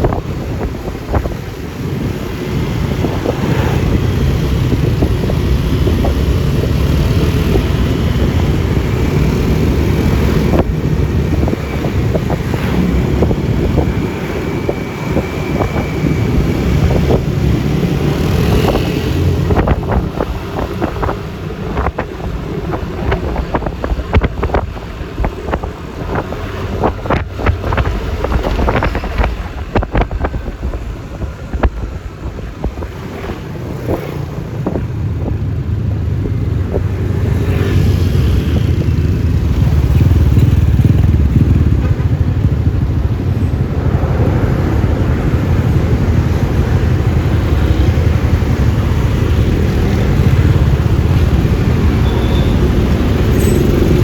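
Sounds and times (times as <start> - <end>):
tyre and road noise: 0.0 - 54.0
wind buffeting microphone: 0.0 - 54.0.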